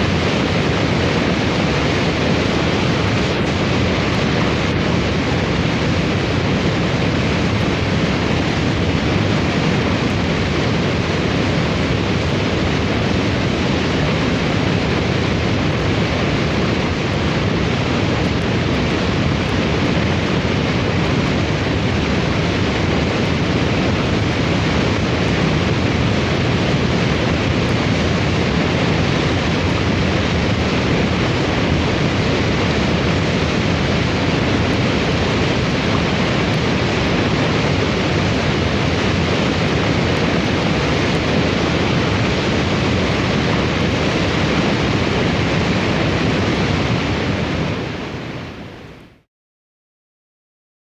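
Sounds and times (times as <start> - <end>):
roaring wind: 0.0 - 49.2.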